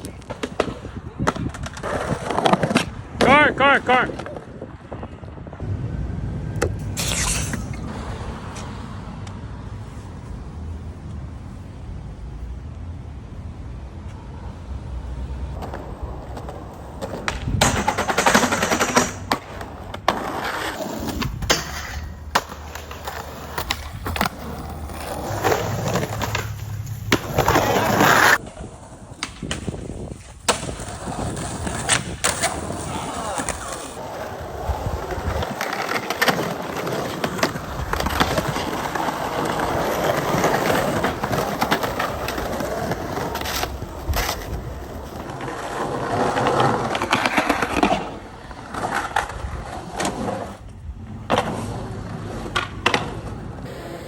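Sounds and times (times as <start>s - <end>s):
skateboards clacking on ground: 0.0s - 5.6s, 15.4s - 54.0s
skateboards rolling on pavement: 0.0s - 54.0s.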